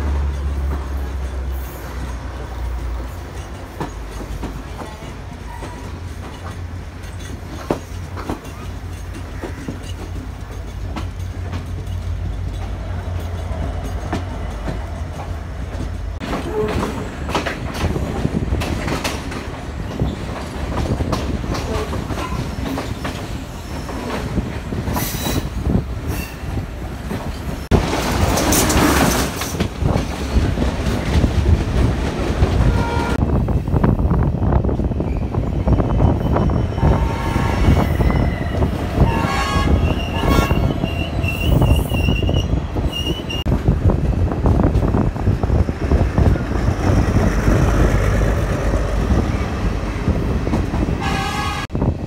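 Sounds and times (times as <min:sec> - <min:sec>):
train rattling over rails: 0:00.0 - 0:52.0.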